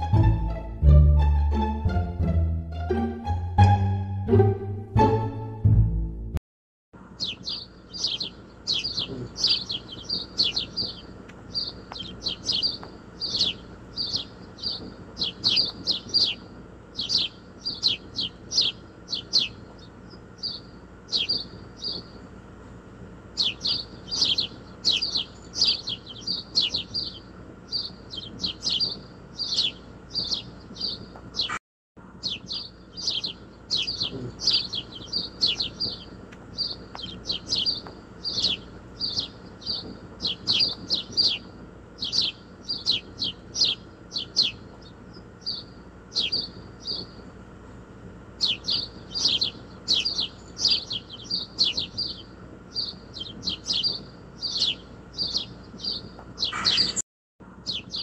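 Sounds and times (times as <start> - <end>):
small birds chirping: 7.0 - 58.0.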